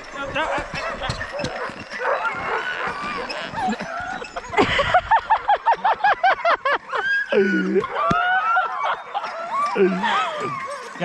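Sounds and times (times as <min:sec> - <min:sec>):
dogs barking and yelping: 0:00.0 - 0:11.0
fast high yelps: 0:00.0 - 0:11.0.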